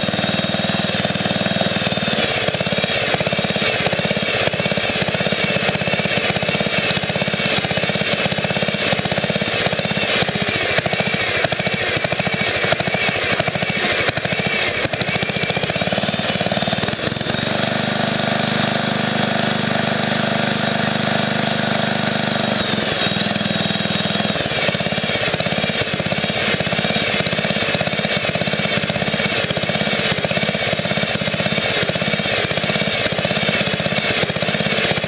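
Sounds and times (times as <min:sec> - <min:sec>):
riding mower engine running: 0:00.0 - 0:35.0.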